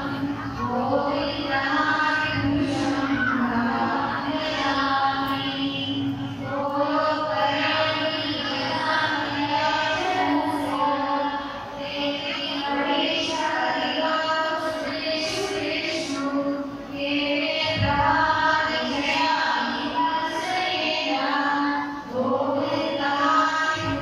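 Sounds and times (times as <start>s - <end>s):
voices chanting a mantra: 0.0s - 24.0s.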